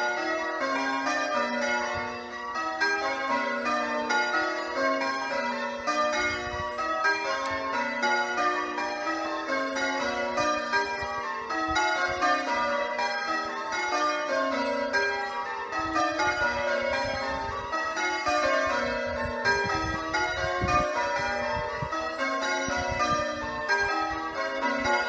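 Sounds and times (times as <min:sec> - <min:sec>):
church bells change-ringing: 0:00.0 - 0:25.0.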